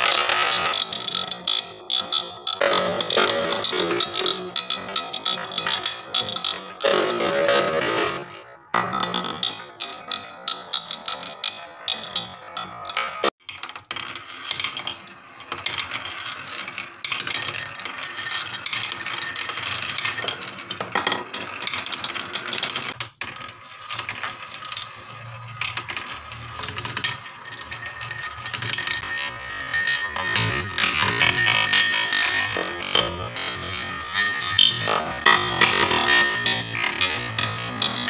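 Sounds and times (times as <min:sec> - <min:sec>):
marble rolling on wooden track: 0:00.0 - 0:38.0.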